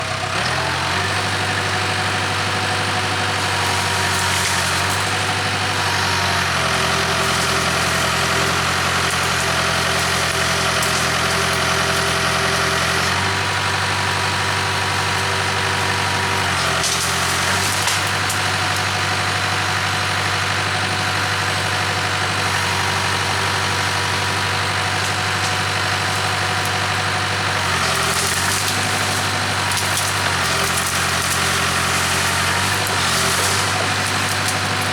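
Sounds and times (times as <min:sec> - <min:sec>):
backhoe diesel engine running: 0:00.0 - 0:34.9.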